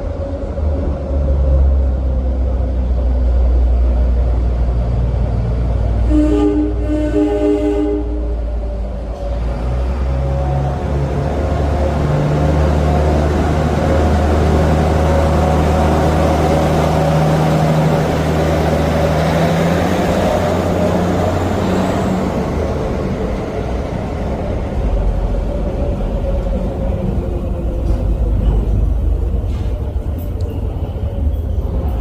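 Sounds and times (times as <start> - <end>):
diesel locomotive engine drone: 0.0 - 32.0
wheel and rail noise: 0.0 - 32.0.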